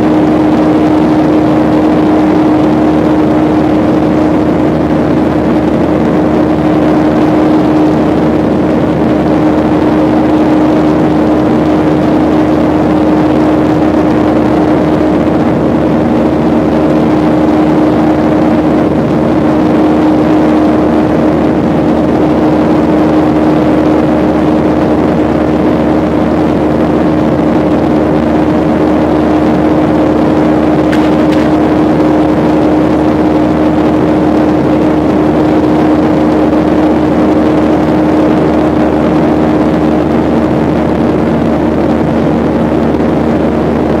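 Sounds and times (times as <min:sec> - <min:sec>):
constant hum: 0:00.0 - 0:44.0
jet engines and rushing air: 0:00.0 - 0:44.0.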